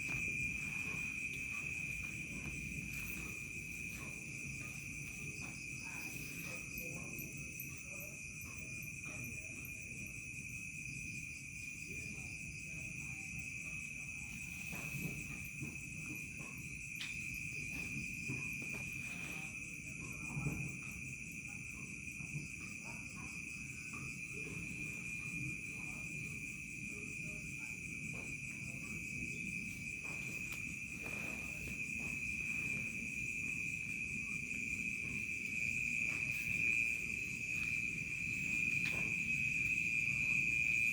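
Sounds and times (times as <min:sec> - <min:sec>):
crickets chirring: 0:00.0 - 0:40.9
high insect calls: 0:00.0 - 0:40.9.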